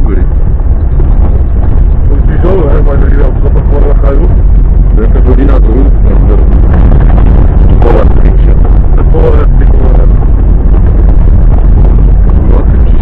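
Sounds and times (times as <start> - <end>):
off-road vehicle rumble: 0.0 - 13.0
wind on microphone: 0.0 - 13.0.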